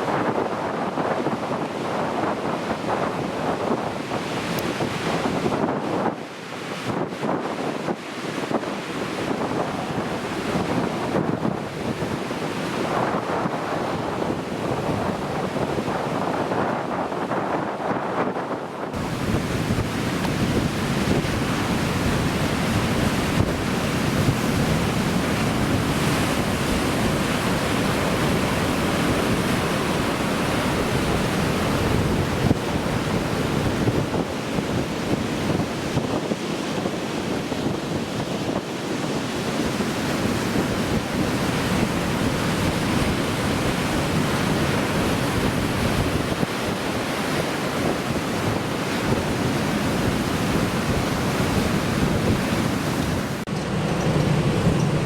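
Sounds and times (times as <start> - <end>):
surf breaking on shore: 0.0 - 55.0
wind buffeting microphone: 0.0 - 55.0.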